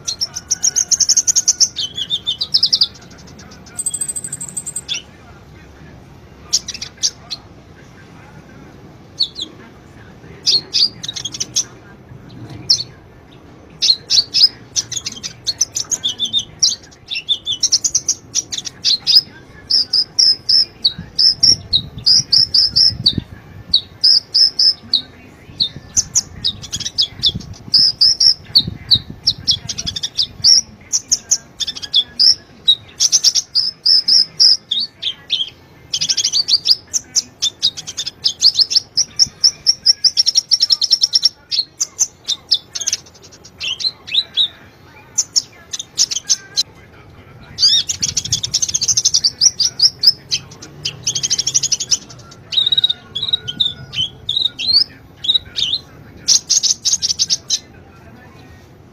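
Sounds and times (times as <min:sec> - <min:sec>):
bird chirping and trilling: 0:00.0 - 0:05.2, 0:09.1 - 0:09.6, 0:10.4 - 0:46.7, 0:47.6 - 0:57.7.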